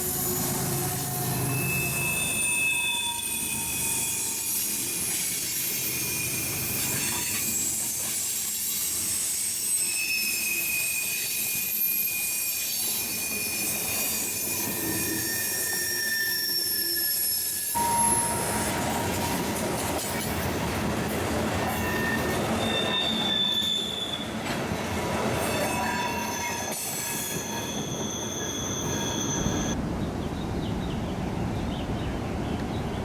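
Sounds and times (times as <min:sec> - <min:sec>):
train wheels squealing: 0:00.0 - 0:29.8
railcars rolling rumble: 0:00.0 - 0:33.0.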